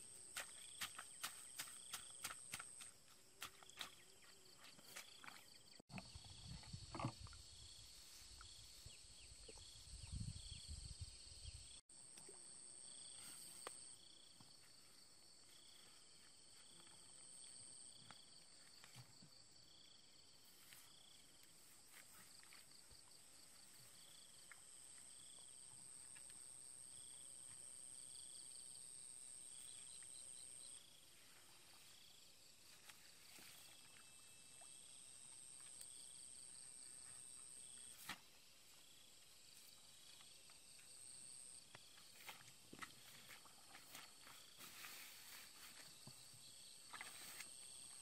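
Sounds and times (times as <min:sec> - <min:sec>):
insect chirp: 0:00.0 - 0:48.0.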